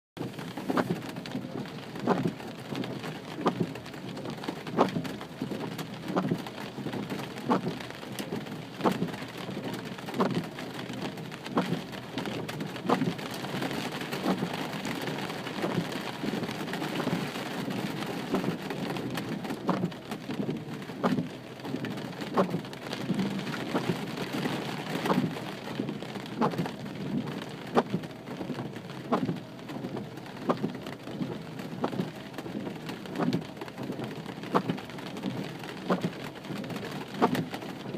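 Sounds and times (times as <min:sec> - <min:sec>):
steady rain falling: 0:00.2 - 0:37.9.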